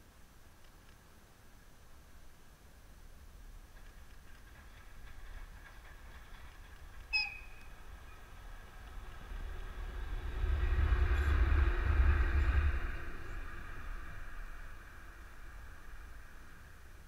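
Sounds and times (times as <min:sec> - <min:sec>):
electric locomotive passing: 0:03.2 - 0:17.0.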